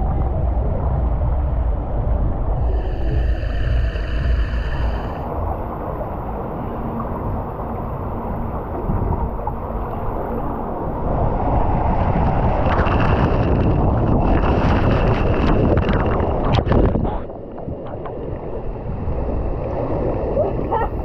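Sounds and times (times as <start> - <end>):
wind on the microphone: 0.0 - 21.0.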